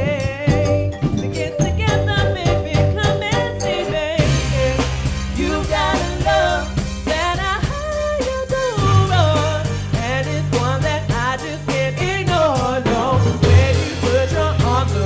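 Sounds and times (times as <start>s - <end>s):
bass line: 0.0s - 15.0s
drum kit: 0.0s - 15.0s
lead singer singing: 2.4s - 15.0s.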